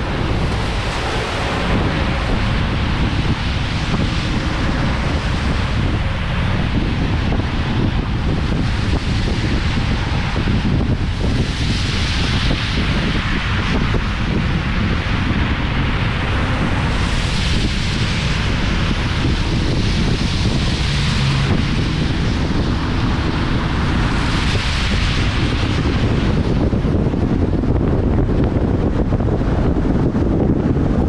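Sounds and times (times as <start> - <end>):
road noise: 0.0 - 31.0
wind buffeting microphone: 0.0 - 31.0.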